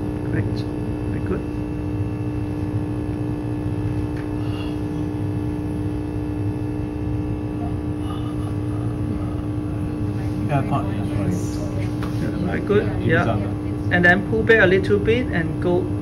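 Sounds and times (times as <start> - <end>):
vacuum pump humming: 0.0 - 16.0.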